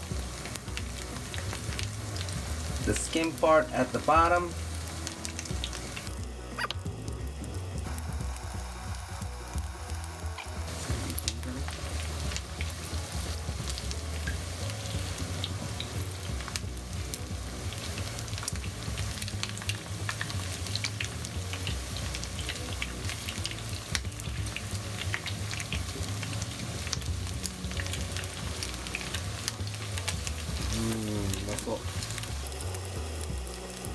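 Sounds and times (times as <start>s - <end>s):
chicken frying in oil: 0.0s - 33.9s.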